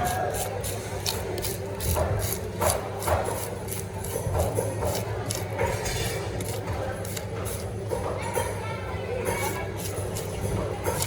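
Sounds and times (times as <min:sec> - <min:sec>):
knife scraping fish: 0:00.0 - 0:08.6, 0:09.2 - 0:11.0.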